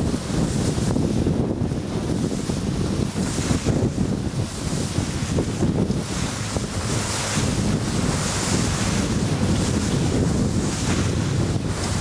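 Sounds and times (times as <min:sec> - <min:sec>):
choppy water rushing: 0:00.0 - 0:12.0
wind buffeting microphone: 0:00.0 - 0:12.0.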